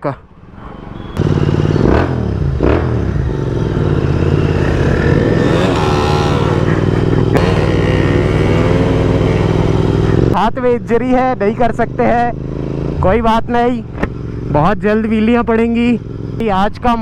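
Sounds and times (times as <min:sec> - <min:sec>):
motorcycle engine pulling away: 0:00.7 - 0:10.4, 0:11.8 - 0:16.4.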